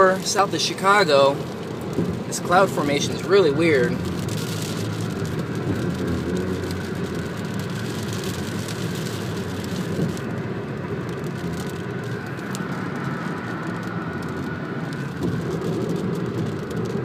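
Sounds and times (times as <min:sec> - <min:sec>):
car road noise: 0:00.0 - 0:17.0
rain hitting windshield: 0:00.0 - 0:17.0.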